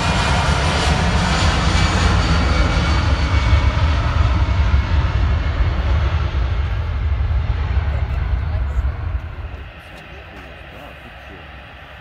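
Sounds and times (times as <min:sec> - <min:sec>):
jet airliner roar: 0:00.0 - 0:12.0.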